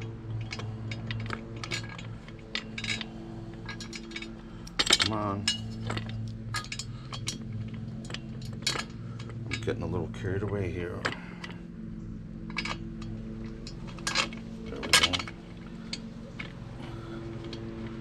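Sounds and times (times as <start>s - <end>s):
faint low hum: 0.0s - 18.0s
metal clinking and scraping: 0.0s - 18.0s.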